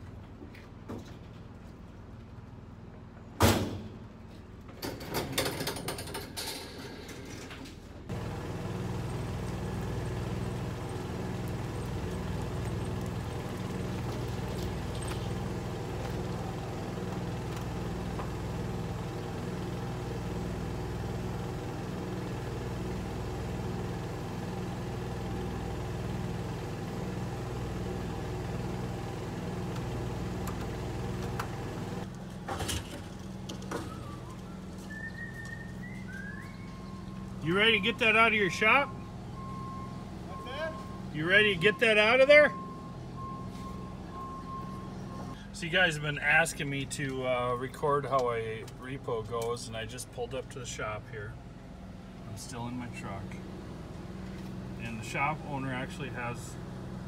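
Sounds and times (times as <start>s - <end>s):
engine idling: 8.1s - 57.0s.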